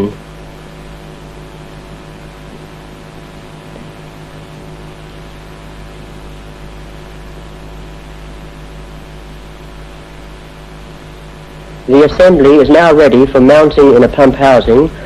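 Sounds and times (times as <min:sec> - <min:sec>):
background hiss: 0:00.0 - 0:15.0
electrical mains hum: 0:00.0 - 0:15.0.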